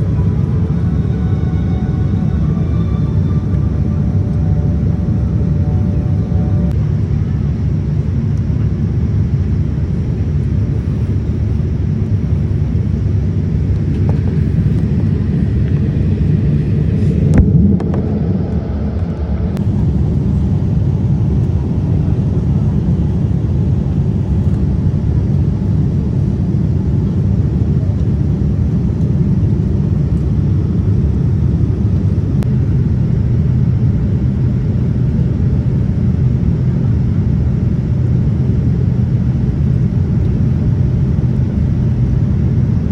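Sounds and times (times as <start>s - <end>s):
airliner engines rumbling: 0.0s - 42.9s.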